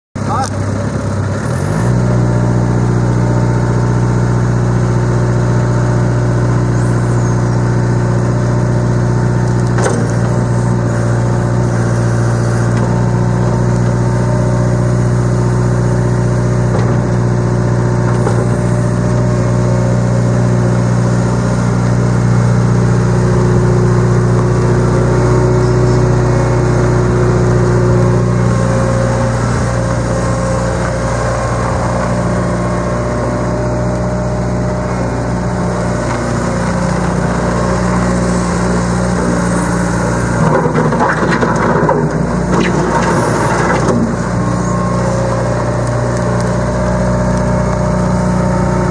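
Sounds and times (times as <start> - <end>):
diesel engine running steadily: 0.2 - 48.9.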